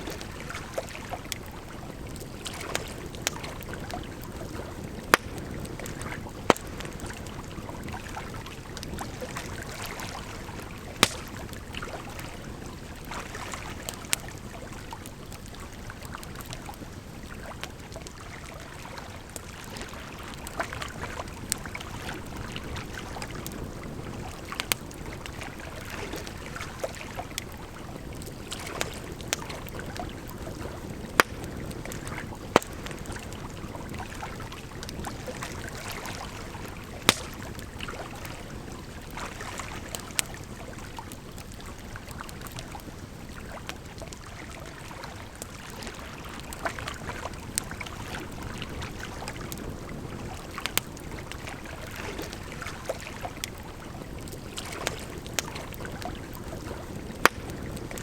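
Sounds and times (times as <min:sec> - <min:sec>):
campfire crackling and popping: 0:00.0 - 0:58.0
rushing water: 0:00.0 - 0:58.0.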